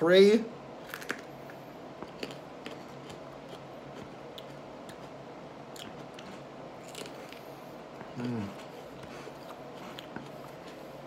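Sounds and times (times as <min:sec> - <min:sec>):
chile pepper being chewed: 0:00.8 - 0:11.0.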